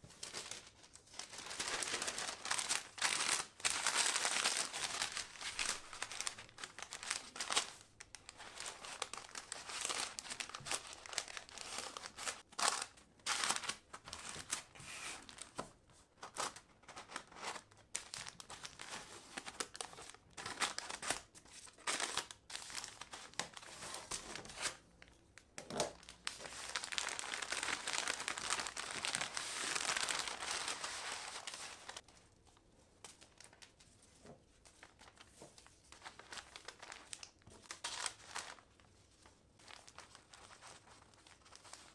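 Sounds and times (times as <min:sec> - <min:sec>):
paper crinkling and rustling: 0:00.0 - 0:24.8, 0:25.6 - 0:41.9.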